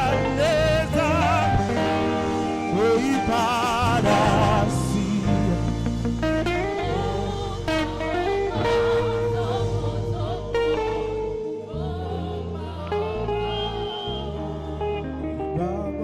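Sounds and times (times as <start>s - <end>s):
bass line: 0.0s - 16.0s
gospel band playing chords: 0.0s - 16.0s
saxophone melody: 0.0s - 16.0s.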